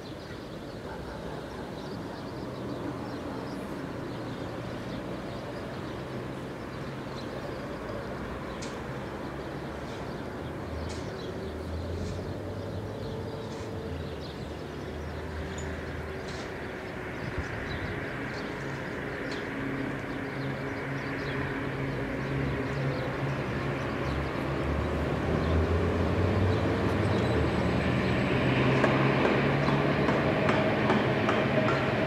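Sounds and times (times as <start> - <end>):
distant electric locomotive rumbling: 0.0 - 32.0.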